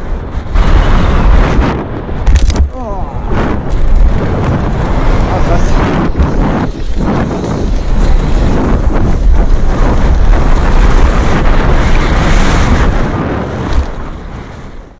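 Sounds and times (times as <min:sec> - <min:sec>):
wind rushing over microphone: 0:00.0 - 0:14.9.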